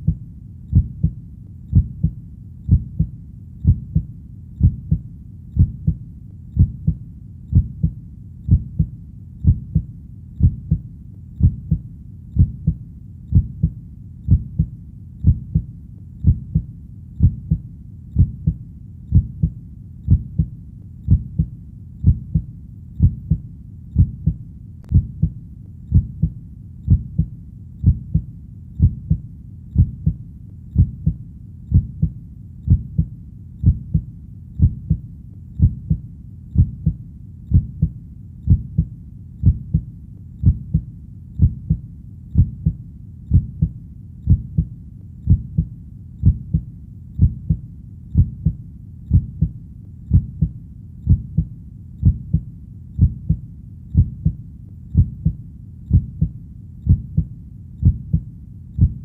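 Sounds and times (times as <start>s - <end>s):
heartbeat: 0.0s - 59.0s.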